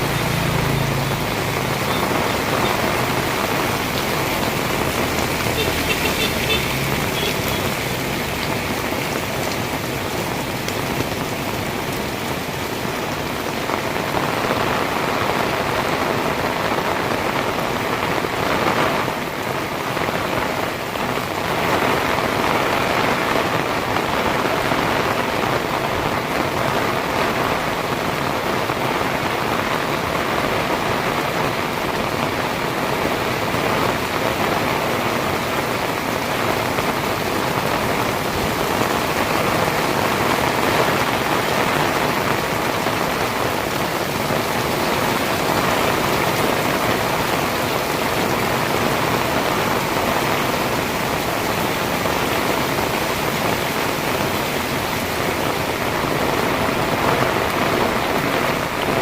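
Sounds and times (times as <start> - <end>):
heavy rain on hard surfaces: 0.0 - 59.0.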